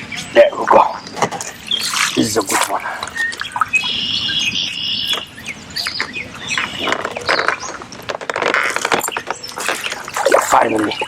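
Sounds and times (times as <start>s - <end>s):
water splashing: 0.6s - 11.0s.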